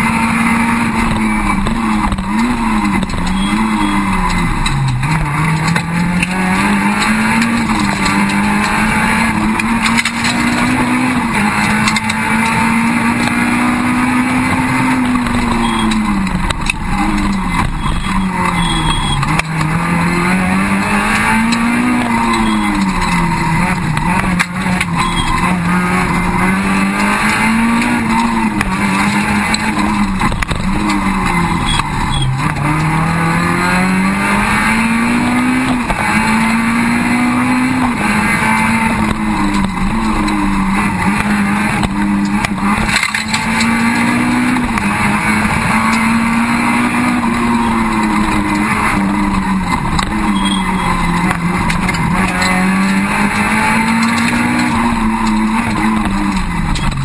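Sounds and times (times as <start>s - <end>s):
rally car engine revving: 0.0s - 57.0s
road and mechanical noise: 0.0s - 57.0s.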